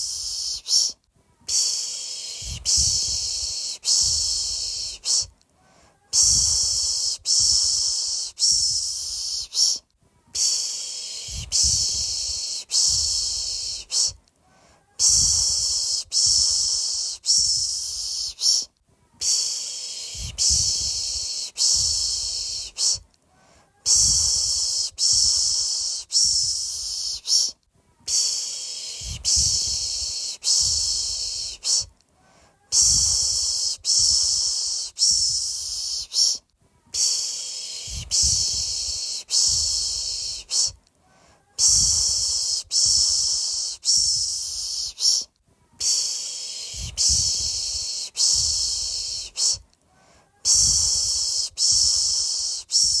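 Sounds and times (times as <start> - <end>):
person shushing a baby: 0.0 - 53.0.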